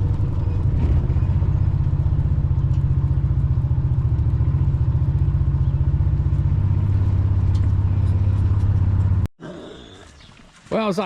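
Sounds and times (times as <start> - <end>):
engine pulsing rumble: 0.0 - 9.3.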